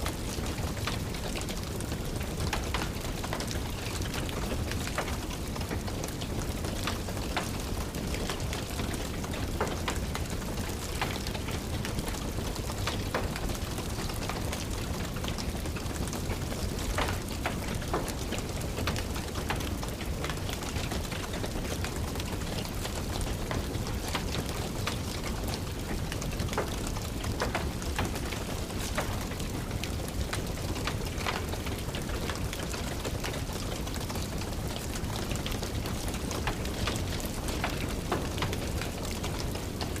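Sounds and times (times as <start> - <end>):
steady rain hiss: 0.0 - 40.0
wood fire crackling: 0.0 - 40.0.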